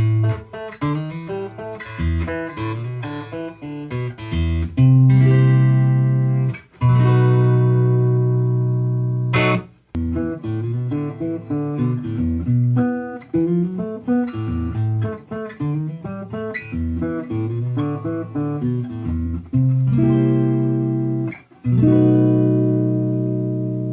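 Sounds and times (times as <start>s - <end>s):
guitar playing: 0.0s - 23.9s.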